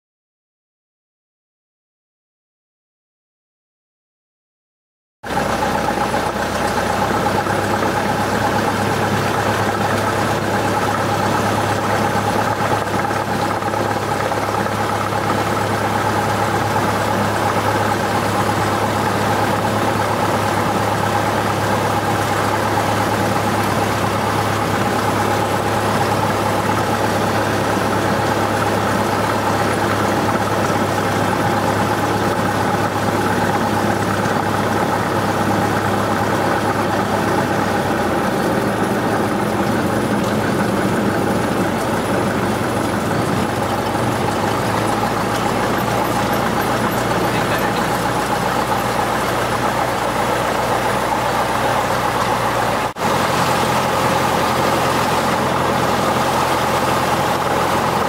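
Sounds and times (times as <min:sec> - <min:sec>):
propeller plane engine running: 0:05.2 - 0:58.0.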